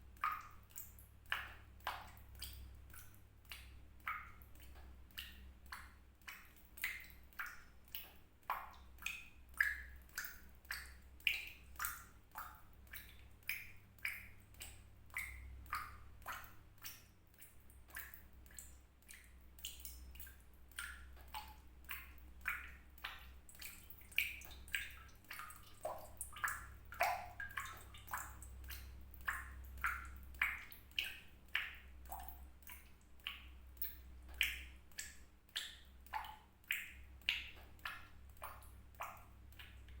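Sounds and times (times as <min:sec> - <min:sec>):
water drops plinking into water: 0:00.2 - 0:40.0.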